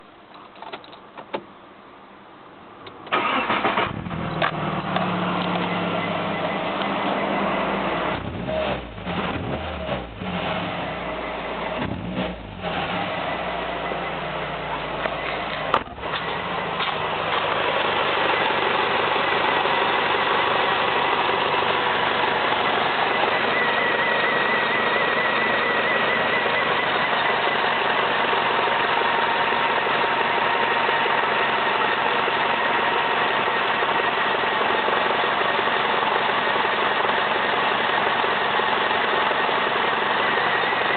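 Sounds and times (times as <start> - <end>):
engine idling: 3.1 - 40.9.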